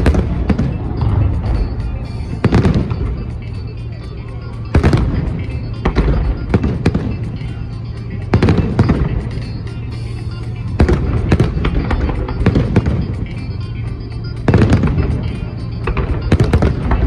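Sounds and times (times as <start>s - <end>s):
fireworks bangs with crackling: 0.0s - 3.6s, 4.7s - 9.6s, 10.7s - 13.5s, 14.4s - 17.0s
music playing: 0.0s - 17.0s.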